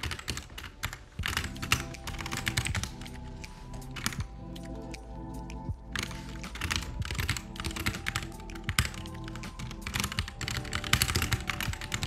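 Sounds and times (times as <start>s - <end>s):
typing on computer keyboard: 0.0s - 4.8s, 5.6s - 12.0s
soft lofi music: 0.0s - 12.0s.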